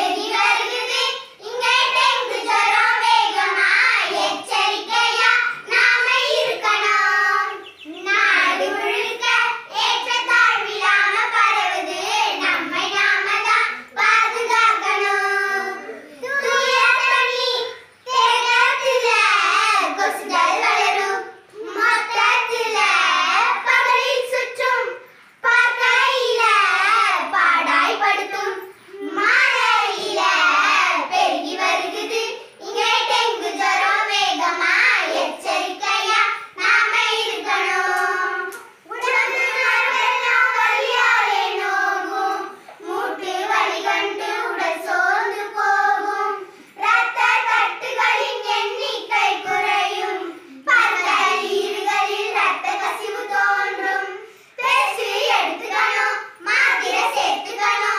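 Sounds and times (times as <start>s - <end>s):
girls singing together: 0.0s - 57.9s.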